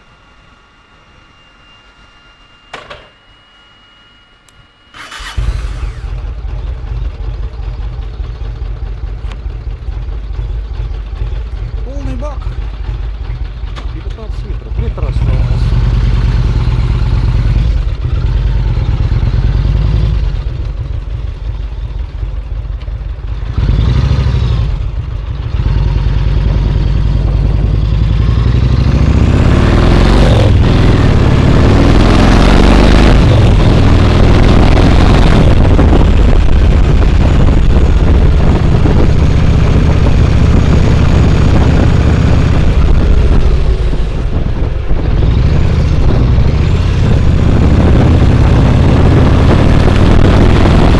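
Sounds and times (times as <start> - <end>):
motorcycle engine running: 4.9 - 50.9.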